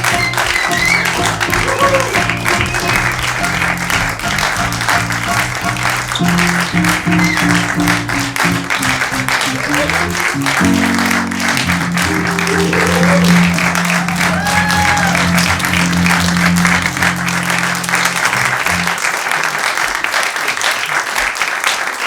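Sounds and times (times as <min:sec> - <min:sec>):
music with low chords: 0:00.0 - 0:18.7
audience applauding: 0:00.0 - 0:22.0.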